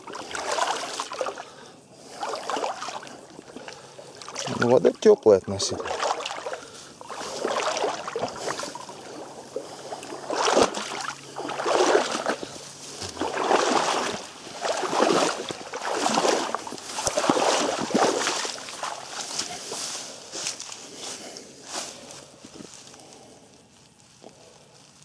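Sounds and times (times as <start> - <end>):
person wading through water: 0.0 - 24.9.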